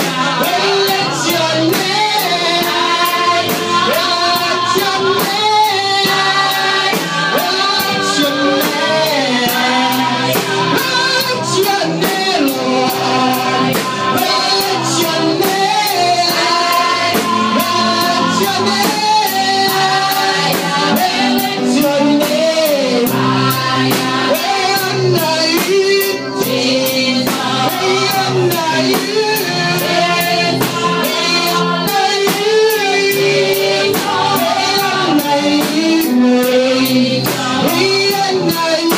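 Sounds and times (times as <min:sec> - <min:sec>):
guitar: 0:00.0 - 0:38.9
percussion beat: 0:00.0 - 0:38.9
voices singing: 0:00.0 - 0:38.9.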